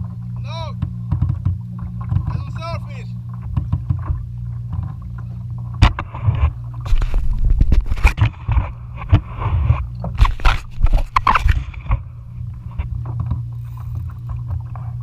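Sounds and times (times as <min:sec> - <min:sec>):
steady low rumble: 0:00.0 - 0:15.0
water splashing against hull: 0:00.0 - 0:15.0.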